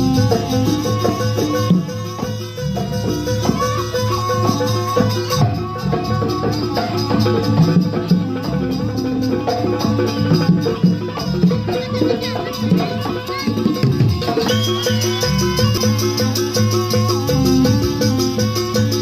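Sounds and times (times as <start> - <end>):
drumming and percussion: 0.0 - 19.0
held pitched tones: 0.0 - 19.0.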